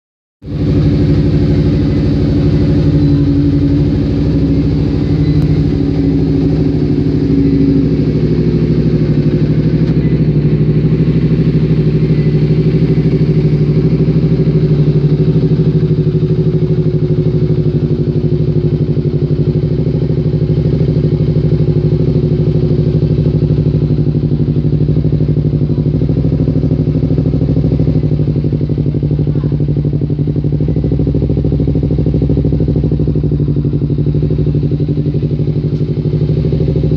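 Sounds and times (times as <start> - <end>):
motorcycle engine idling: 0.4 - 36.9.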